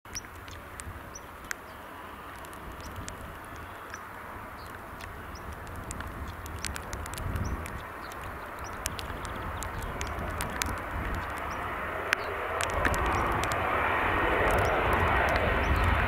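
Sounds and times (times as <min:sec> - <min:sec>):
birds chirping: 0:00.1 - 0:16.0
jet aircraft rumble: 0:00.1 - 0:16.0.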